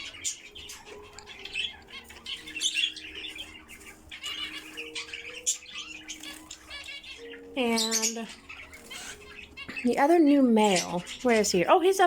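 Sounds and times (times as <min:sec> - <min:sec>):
flock of birds chirping and squawking: 0:00.0 - 0:12.0.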